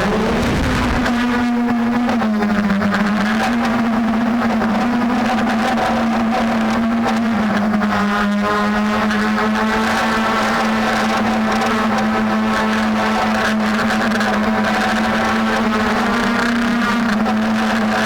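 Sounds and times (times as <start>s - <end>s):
drone motors humming: 0.0s - 18.0s.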